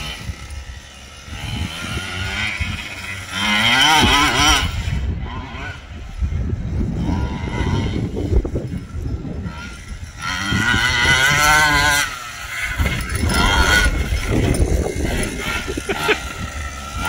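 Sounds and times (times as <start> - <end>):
model truck engine revving: 0.0 - 17.0.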